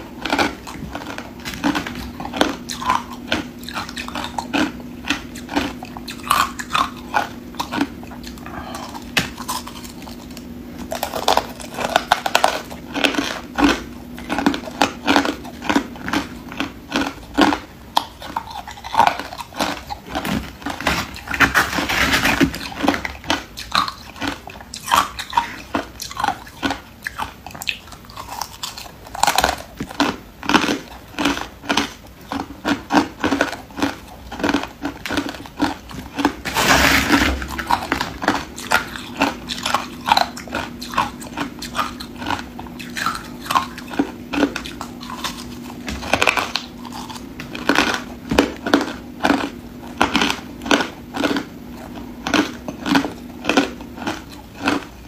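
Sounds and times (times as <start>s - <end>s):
ice being chewed: 0.0s - 55.0s
low steady hum: 0.0s - 55.0s.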